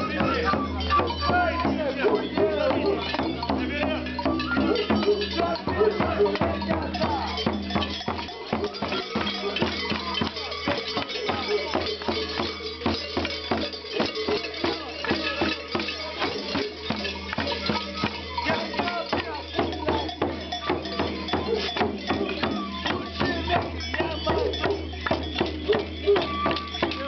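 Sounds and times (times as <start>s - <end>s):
bells clanging in rhythm: 0.0s - 27.0s.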